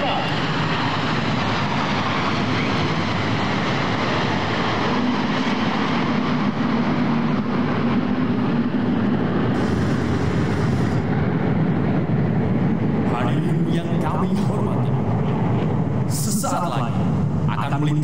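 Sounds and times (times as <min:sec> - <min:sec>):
jet fighters flying overhead: 0:00.0 - 0:18.0.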